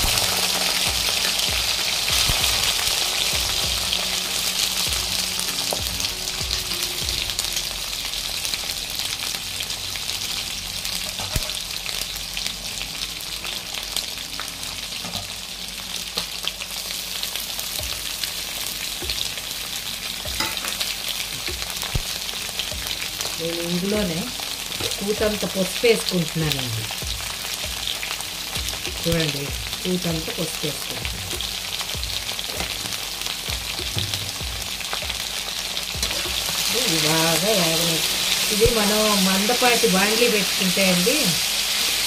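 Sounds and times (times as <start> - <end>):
vegetables sizzling in hot oil: 0.0 - 42.0.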